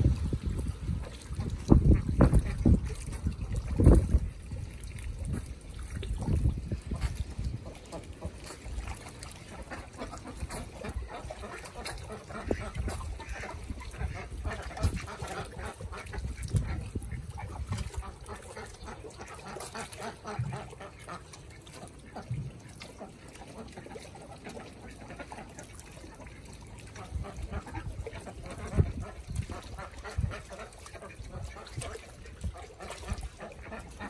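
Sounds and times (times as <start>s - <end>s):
geese splashing in water: 0.0s - 34.0s.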